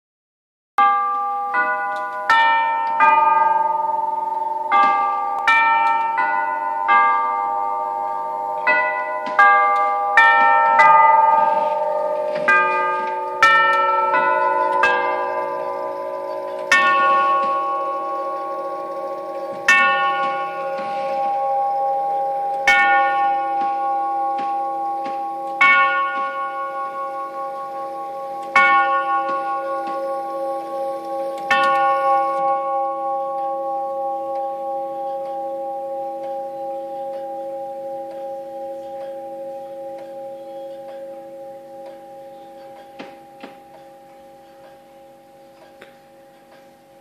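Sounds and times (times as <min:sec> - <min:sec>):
tubular clock chimes striking: 0:00.8 - 0:47.0.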